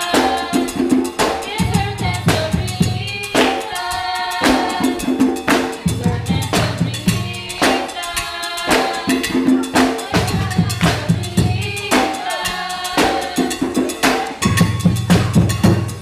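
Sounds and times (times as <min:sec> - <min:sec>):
women singing: 0:00.0 - 0:14.4
hand drumming: 0:00.0 - 0:16.0.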